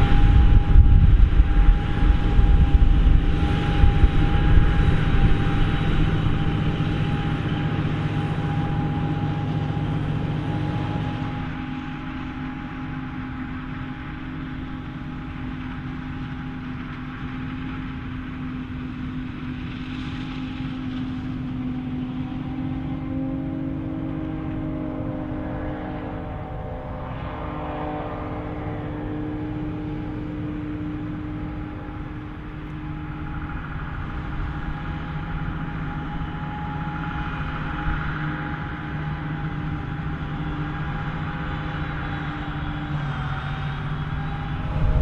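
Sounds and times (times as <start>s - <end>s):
heavy farm machinery running: 0.0s - 45.0s.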